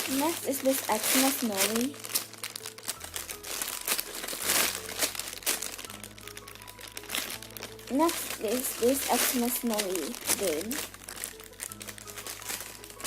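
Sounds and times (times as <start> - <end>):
plastic wrapping crinkling: 0.0 - 13.0
soft background music: 0.0 - 13.0.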